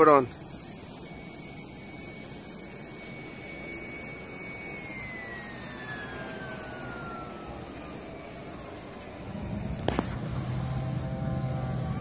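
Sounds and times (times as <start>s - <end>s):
distant jet engine whine: 0.0s - 12.0s
low aircraft rumble: 0.0s - 12.0s.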